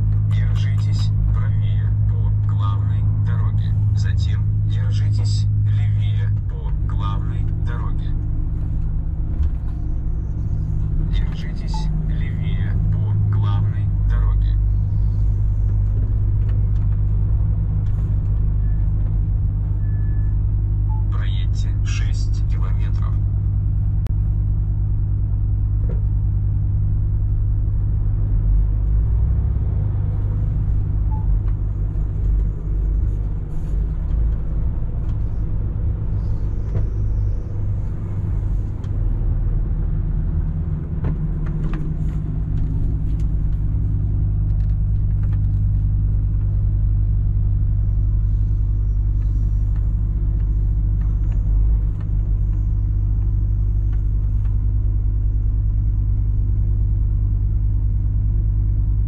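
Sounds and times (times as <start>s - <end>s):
road rumble: 0.0s - 59.0s
truck diesel engine drone: 0.0s - 59.0s.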